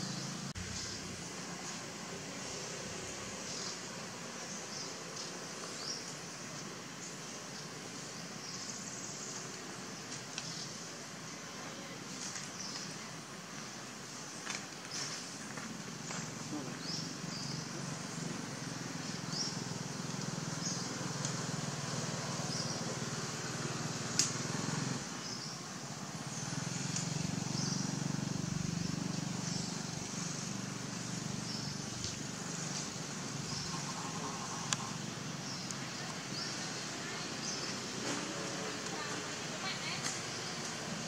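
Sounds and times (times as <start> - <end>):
low rumble of distant engine: 0.0 - 41.0.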